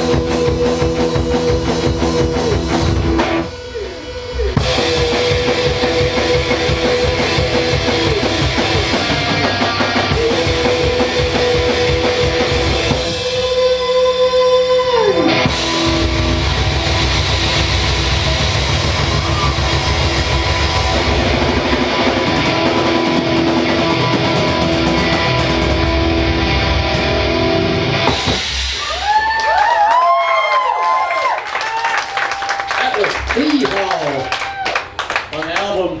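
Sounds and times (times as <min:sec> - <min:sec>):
electric guitar sliding notes: 0:00.0 - 0:28.8
drums: 0:00.0 - 0:36.0.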